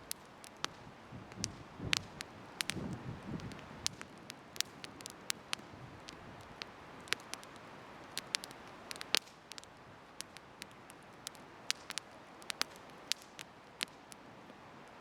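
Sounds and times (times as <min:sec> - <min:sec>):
bonfire crackling and popping: 0:00.0 - 0:15.0
soft hiss of fire: 0:00.0 - 0:15.0.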